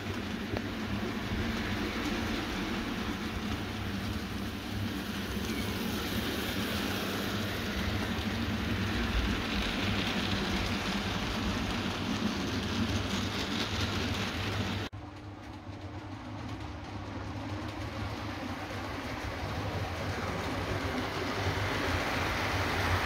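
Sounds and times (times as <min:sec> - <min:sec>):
model train wheels rattling on rails: 0:00.0 - 0:23.0.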